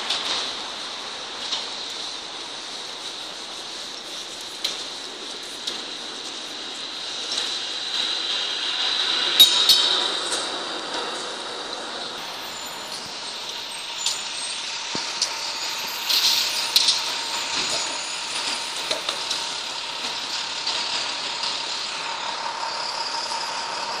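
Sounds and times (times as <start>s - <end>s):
street traffic noise: 0.0s - 24.0s.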